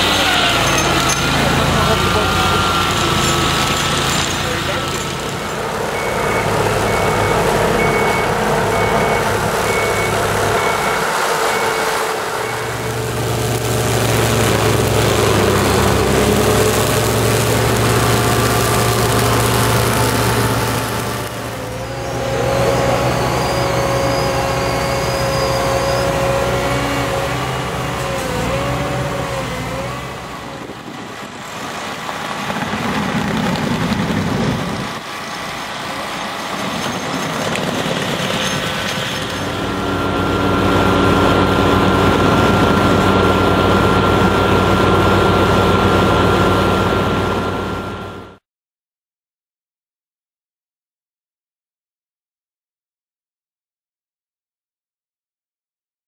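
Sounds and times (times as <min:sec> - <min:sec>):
diesel engine drone: 0:00.0 - 0:48.4
engine whine: 0:00.0 - 0:48.4.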